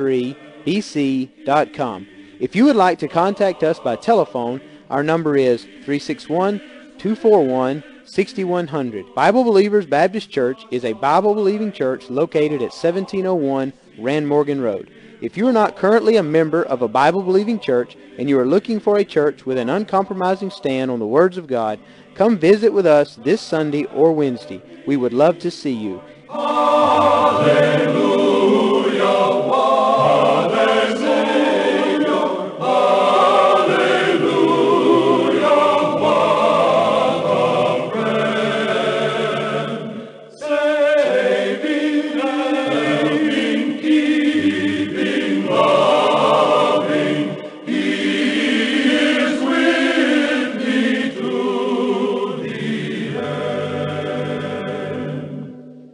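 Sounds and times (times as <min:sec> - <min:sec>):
choir singing a hymn: 0:00.0 - 0:55.6.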